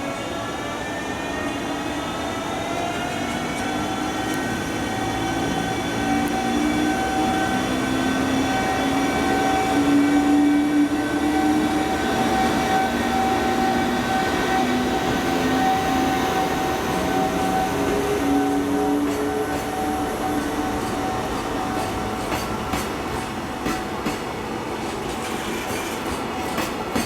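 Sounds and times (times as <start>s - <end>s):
train running rumble: 3.5s - 27.0s.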